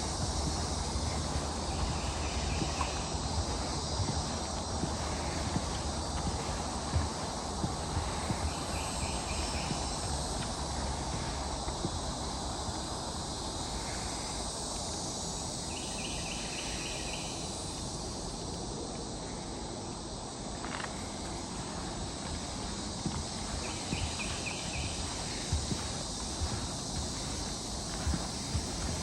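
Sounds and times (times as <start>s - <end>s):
footsteps on wooden boardwalk: 0.0s - 15.1s, 20.4s - 29.0s
insects chorus: 0.0s - 29.0s.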